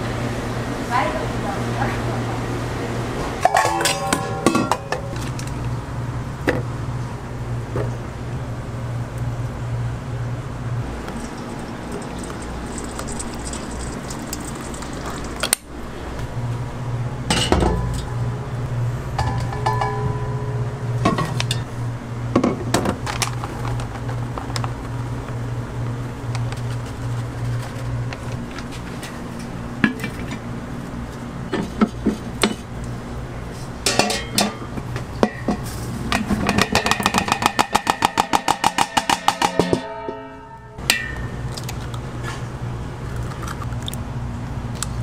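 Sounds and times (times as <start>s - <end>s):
low kitchen hum: 0.0s - 45.0s.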